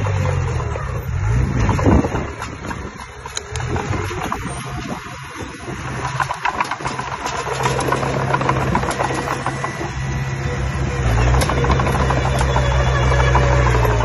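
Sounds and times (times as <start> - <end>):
heavy machine engine running: 0.0 - 14.0
rattling and clanking: 0.0 - 14.0.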